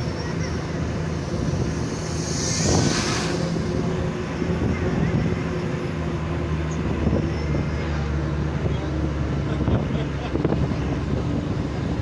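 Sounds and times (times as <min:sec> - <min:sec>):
bus engine running: 0:00.0 - 0:12.0
road and wind noise: 0:00.0 - 0:12.0.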